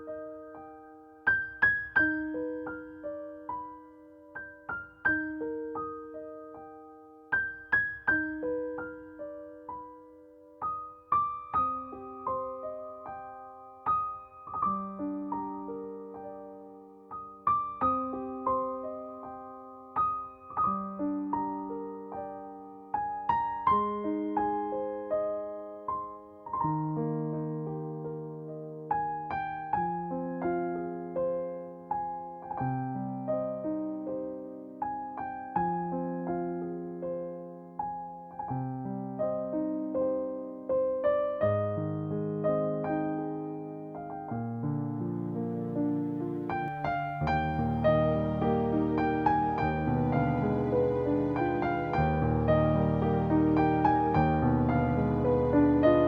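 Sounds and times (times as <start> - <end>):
slow solo piano: 0.0 - 56.0.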